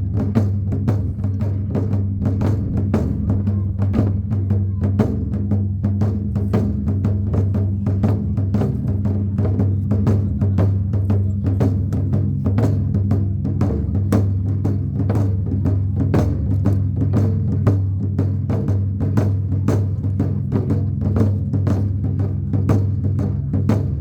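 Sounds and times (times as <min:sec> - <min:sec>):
rapid drum strikes: 0:00.0 - 0:24.0.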